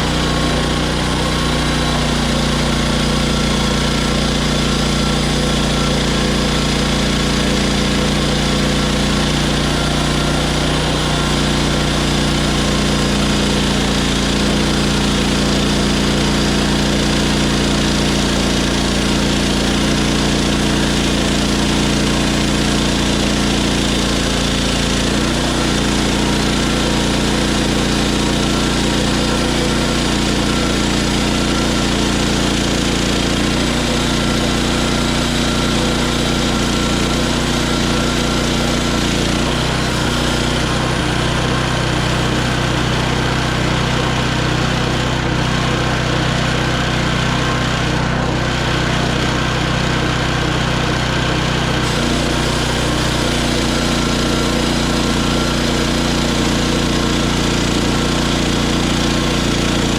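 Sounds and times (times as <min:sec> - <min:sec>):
band sawmill running: 0:00.0 - 0:59.9.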